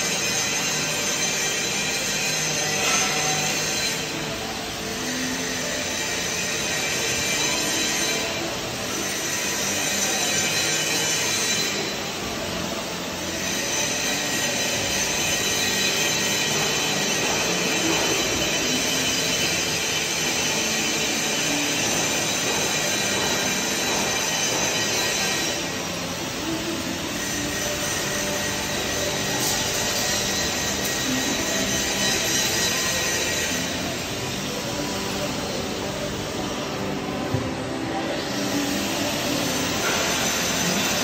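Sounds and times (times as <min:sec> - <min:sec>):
air tool hissing and whining: 0:00.0 - 0:41.0.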